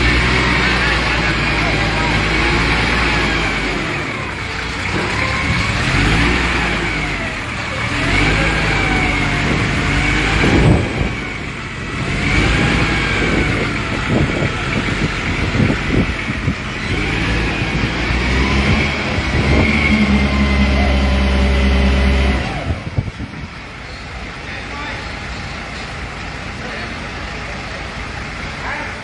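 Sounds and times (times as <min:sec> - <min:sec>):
vehicle engine revving under load: 0:00.0 - 0:24.2.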